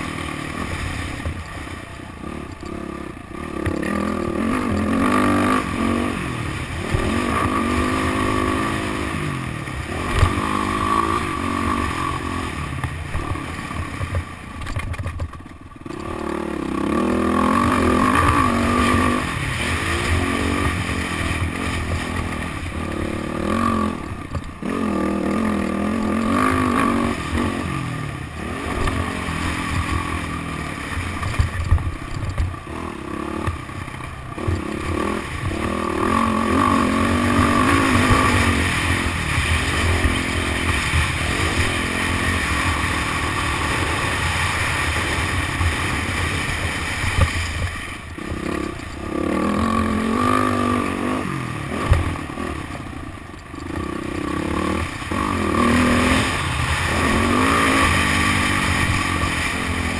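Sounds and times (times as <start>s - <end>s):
dirt bike engine revving: 0.0s - 14.2s, 15.8s - 59.9s.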